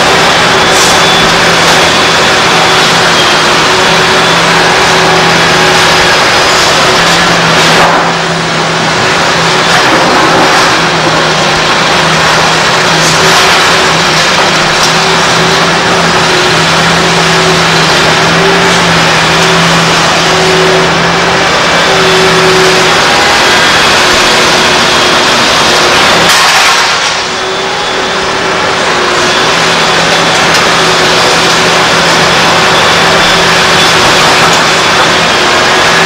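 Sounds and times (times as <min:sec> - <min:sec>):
machine clatter: 0:00.0 - 0:20.0, 0:22.5 - 0:27.4, 0:29.5 - 0:36.0
excavator diesel engine running: 0:00.0 - 0:36.0.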